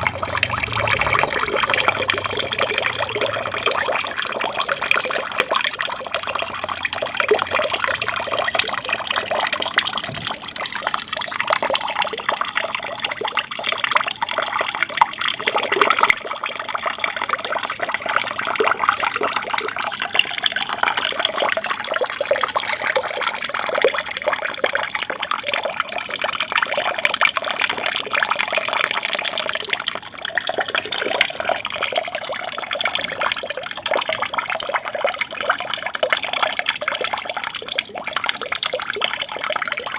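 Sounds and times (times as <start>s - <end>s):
water trickling from aquarium waterfall: 0.0s - 39.9s.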